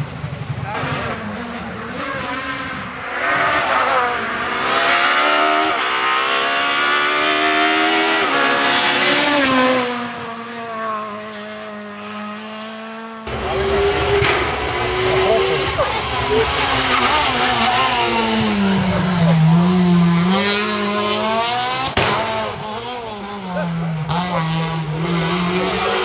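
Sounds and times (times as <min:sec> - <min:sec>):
rally car engine accelerating: 0:00.0 - 0:26.0.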